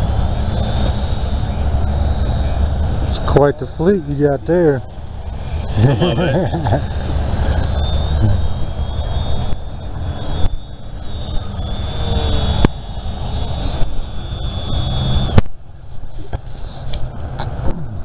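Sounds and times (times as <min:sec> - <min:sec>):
electric fan high whine: 0:00.0 - 0:18.0
heavy low rumble: 0:00.0 - 0:18.0.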